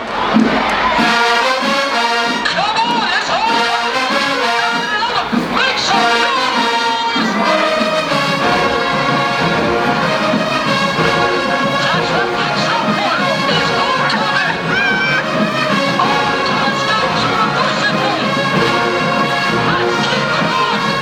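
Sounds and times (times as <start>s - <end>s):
marching band brass playing: 0.0s - 21.0s.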